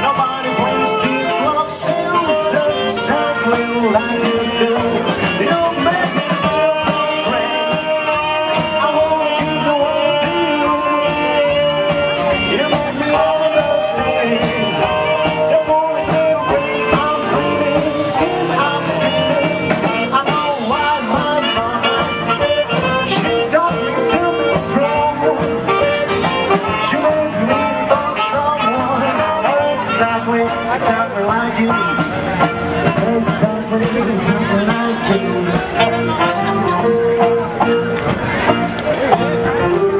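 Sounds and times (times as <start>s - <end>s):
swing band playing: 0.0s - 39.9s.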